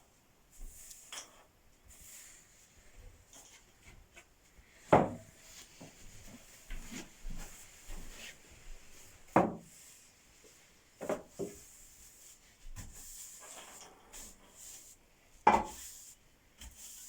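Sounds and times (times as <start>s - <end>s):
broom knocking and scraping on floor: 0.5s - 2.3s, 4.8s - 17.0s.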